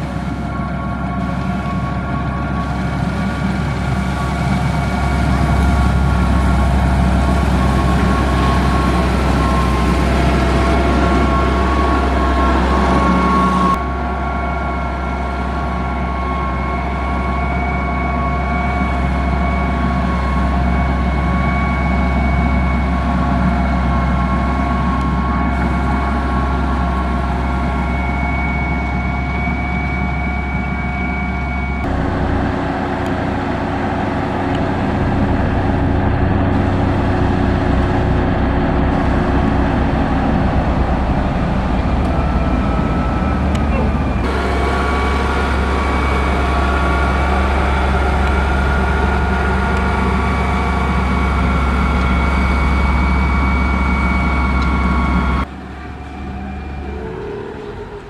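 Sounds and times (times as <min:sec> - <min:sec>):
diesel machinery engine drone: 0:00.0 - 0:58.0
high machine whine: 0:00.0 - 0:58.0.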